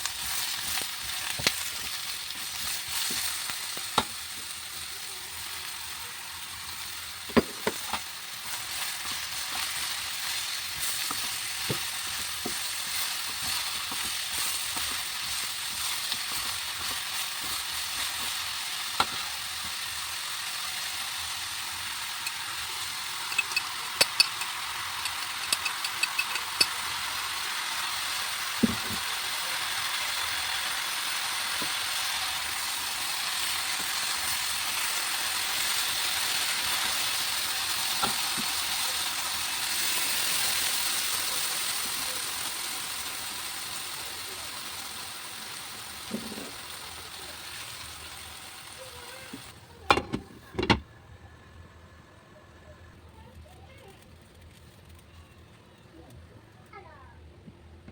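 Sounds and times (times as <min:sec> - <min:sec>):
food sizzling in a pan: 0:00.0 - 0:50.7.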